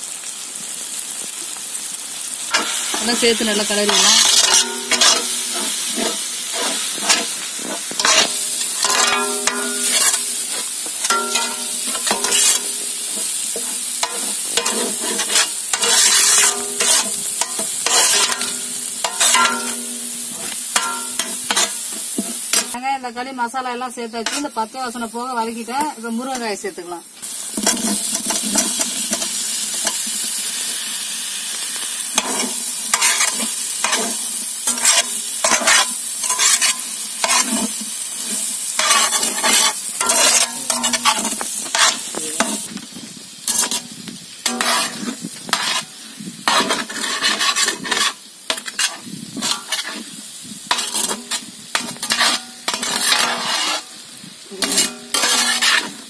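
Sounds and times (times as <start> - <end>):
food sizzling in hot oil: 0.0 - 56.0
metal spatula scraping pan: 2.5 - 22.8, 24.1 - 24.6, 27.5 - 30.3, 32.2 - 42.7, 43.4 - 50.1, 50.7 - 56.0.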